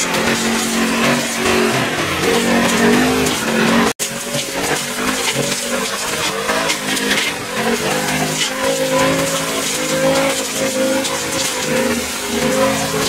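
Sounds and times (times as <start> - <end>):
brush cutter engine at high revs: 0.0 - 13.0.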